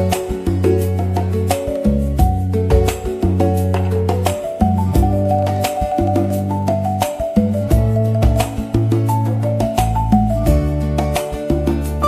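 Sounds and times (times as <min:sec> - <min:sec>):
marimba melody: 0:00.0 - 0:10.8
bass line: 0:00.0 - 0:12.0.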